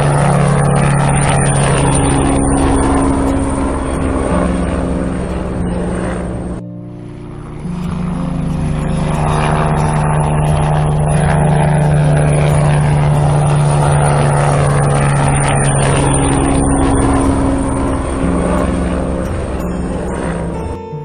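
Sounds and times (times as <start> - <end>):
helicopter hovering: 0.0 - 21.0.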